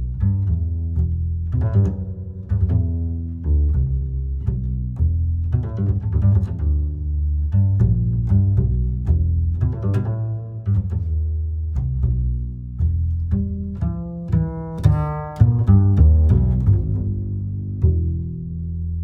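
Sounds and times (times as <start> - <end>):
plucked and bowed strings: 0.0 - 19.0.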